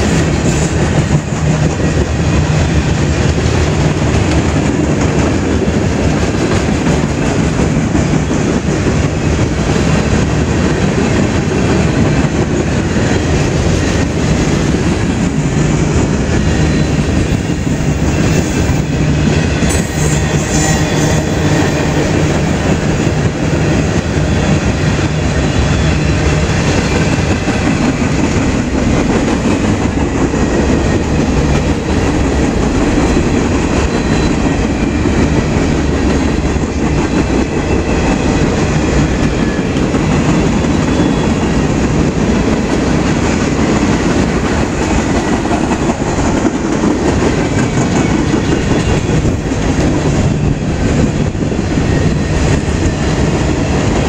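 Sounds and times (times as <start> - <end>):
freight train cars rolling on rails: 0.0 - 54.0.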